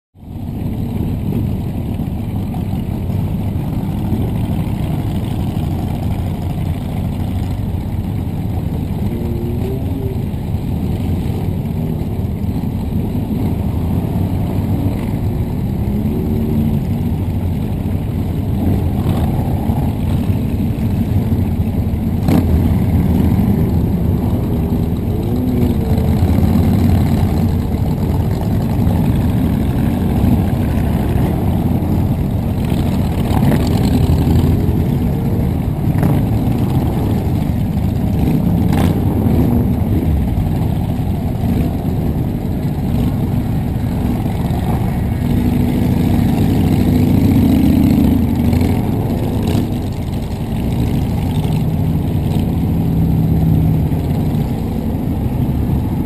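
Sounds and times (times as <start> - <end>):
motorcycle engines idling: 0.2 - 56.0
motorcycles revving past: 3.6 - 56.0.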